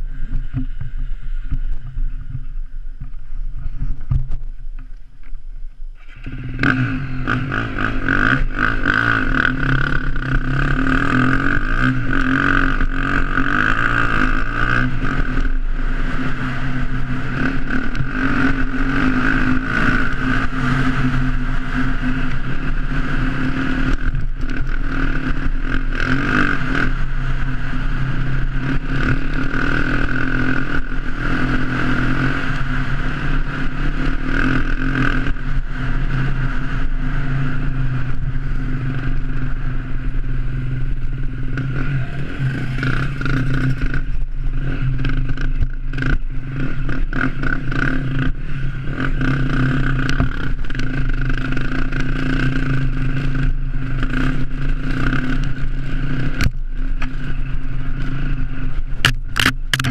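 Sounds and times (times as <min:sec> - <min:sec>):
dirt bike engine revving: 0:06.0 - 0:59.9.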